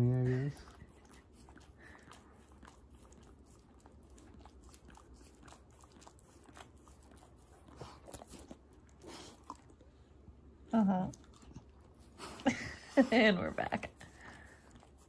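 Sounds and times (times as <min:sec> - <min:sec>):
dog licking and lip-smacking: 0:00.0 - 0:15.0.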